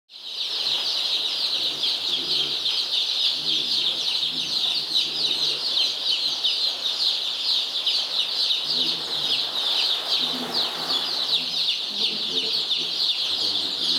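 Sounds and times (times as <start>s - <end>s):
baby chicks peeping: 0.1s - 13.9s.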